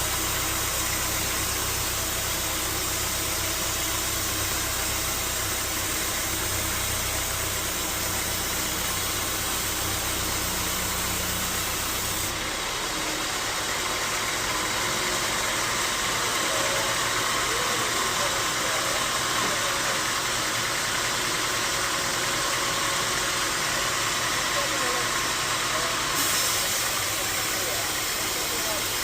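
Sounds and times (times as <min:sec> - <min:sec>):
bandsaw sawmill running: 0:00.0 - 0:29.0.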